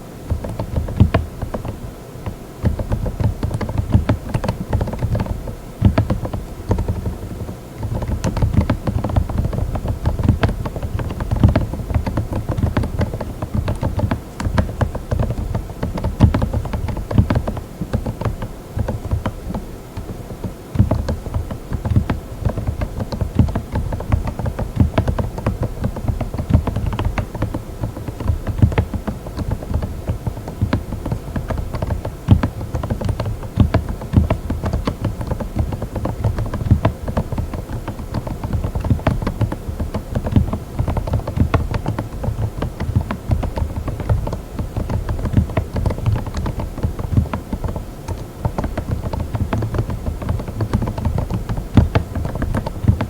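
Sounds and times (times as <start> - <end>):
fast typing on mechanical keyboard: 0.3 - 53.0.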